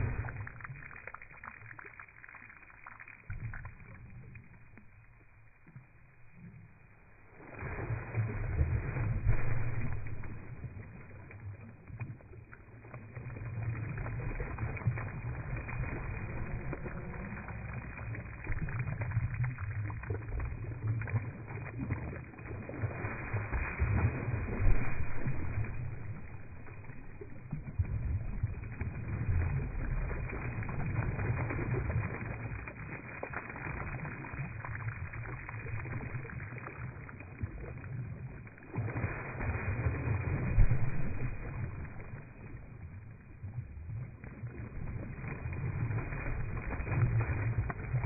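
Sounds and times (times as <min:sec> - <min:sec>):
slowed water splashing rumble: 0:00.0 - 0:48.0.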